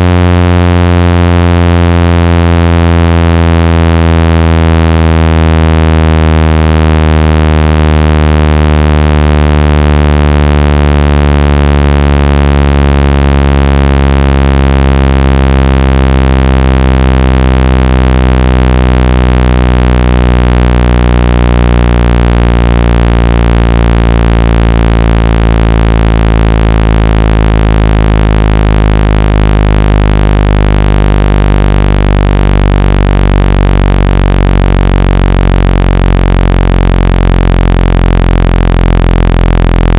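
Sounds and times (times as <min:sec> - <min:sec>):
synthesized low buzzing tone: 0:00.0 - 0:39.9.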